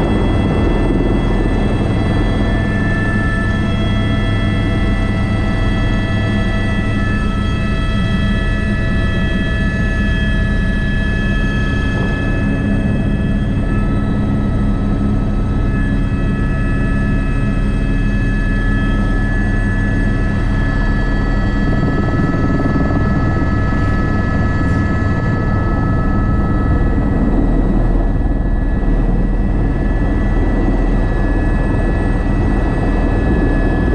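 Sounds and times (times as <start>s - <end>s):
helicopter rotor and engine rumble: 0.0s - 33.9s
high turbine whine: 0.0s - 33.9s.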